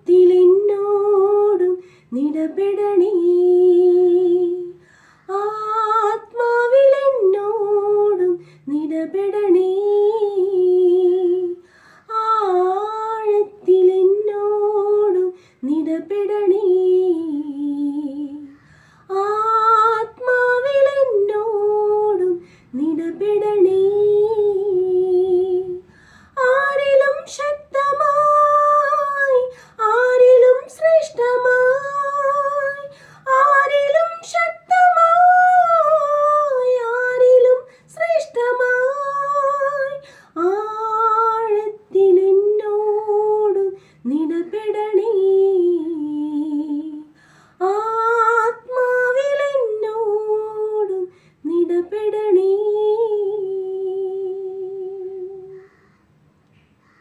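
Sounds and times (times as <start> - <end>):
woman singing unaccompanied: 0.0 - 55.6.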